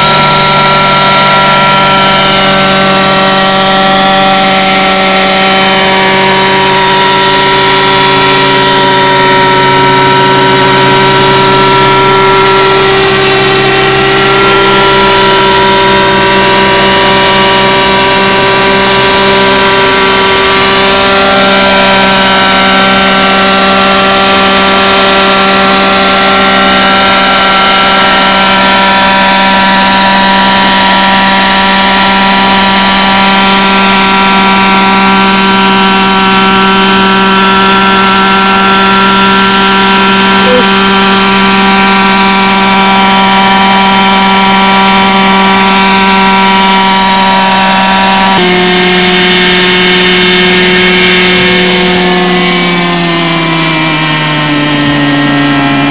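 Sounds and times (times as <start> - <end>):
model helicopter engine whine: 0.0 - 55.9.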